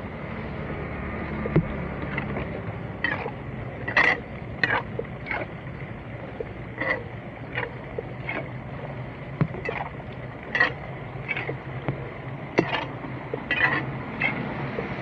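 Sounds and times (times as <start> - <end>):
splashes and scrapes in floodwater: 0.0 - 15.0
steady low hum: 0.0 - 15.0.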